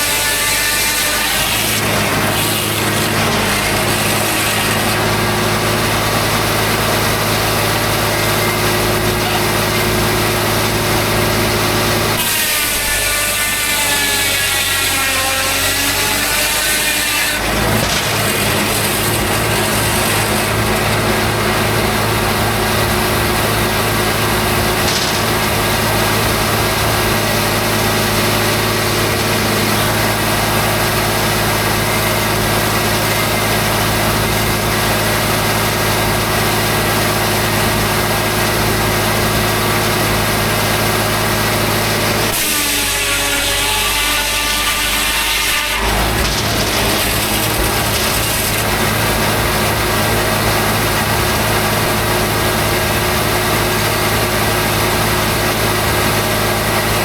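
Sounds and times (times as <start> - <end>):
sawmill blade sawing log: 0.0 - 57.0.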